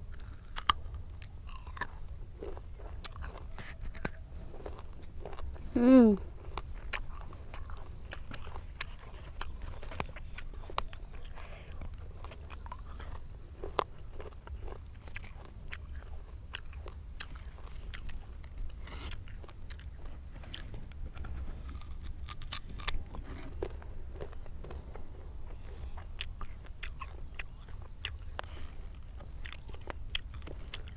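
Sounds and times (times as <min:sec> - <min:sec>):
crunchy fruit chewing: 0:00.0 - 0:30.9.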